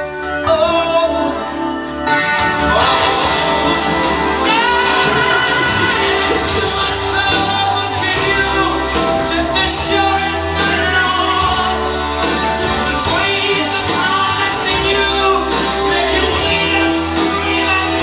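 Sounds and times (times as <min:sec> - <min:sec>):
song with singer over beat: 0:00.0 - 0:18.0.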